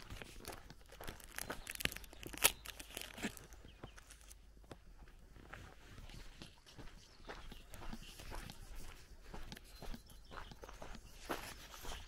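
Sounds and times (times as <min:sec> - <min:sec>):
footsteps crunching on gravel: 0:00.0 - 0:12.0.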